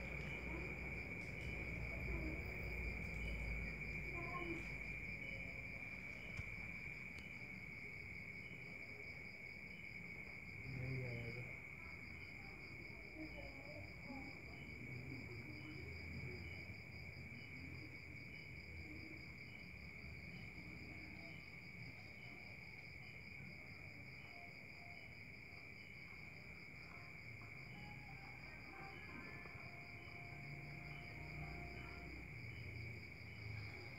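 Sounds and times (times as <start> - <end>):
fast pulsing insect chirp: 0.0 - 33.9
insects trilling: 0.0 - 33.9
slow insect chirp: 0.0 - 33.9.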